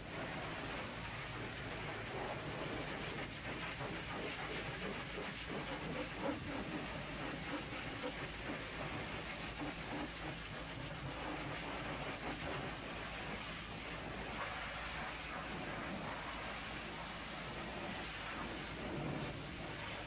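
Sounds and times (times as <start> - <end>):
pressure washer spraying metal: 0.0 - 20.0.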